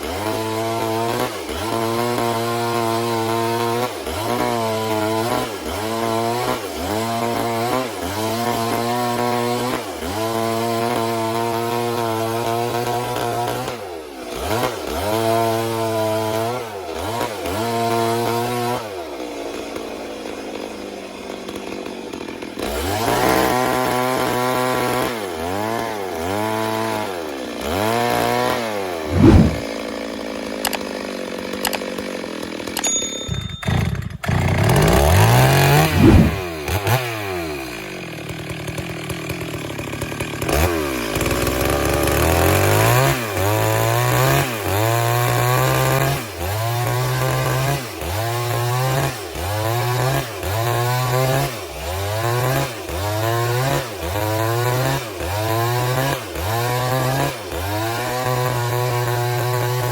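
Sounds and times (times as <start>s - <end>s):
chainsaw engine revving: 0.0s - 32.8s, 33.6s - 59.9s.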